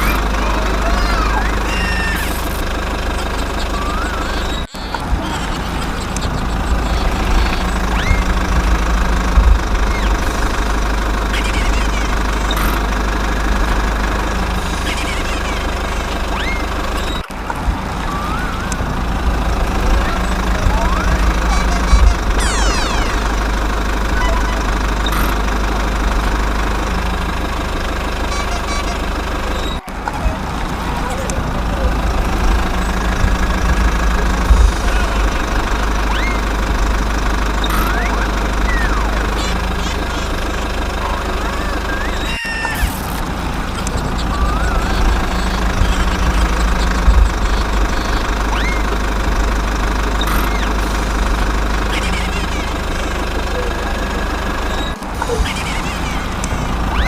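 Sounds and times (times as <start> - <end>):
engine knocking rumble: 0.0 - 57.0
small motor running: 0.0 - 57.0.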